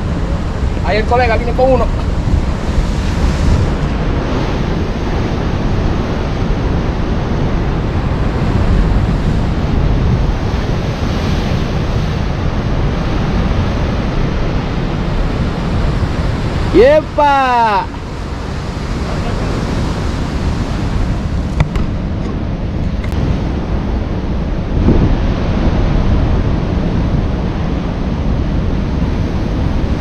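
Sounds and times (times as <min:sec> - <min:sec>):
waves surging and breaking: 0:00.0 - 0:30.0
wind noise on microphone: 0:00.0 - 0:30.0.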